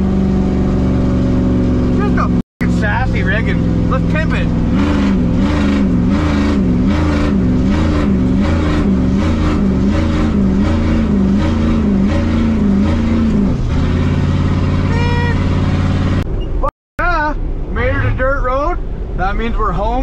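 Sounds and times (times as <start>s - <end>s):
diesel engine from inside cab: 0.0s - 20.0s.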